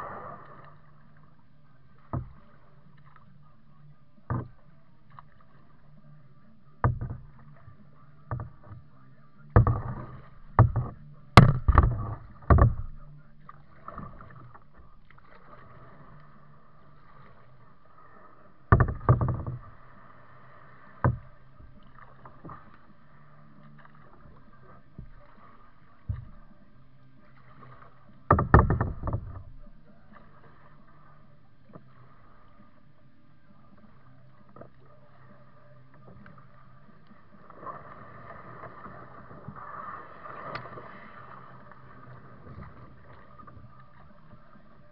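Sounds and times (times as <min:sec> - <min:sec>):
paddle knocks and splashes: 0:00.0 - 0:06.0, 0:06.7 - 0:32.8, 0:33.7 - 0:44.9.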